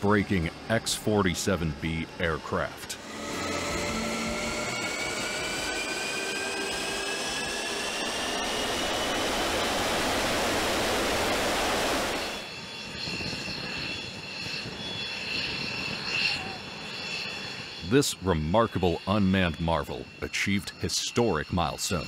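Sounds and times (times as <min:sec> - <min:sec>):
jet engine spooling up: 0:00.0 - 0:22.0.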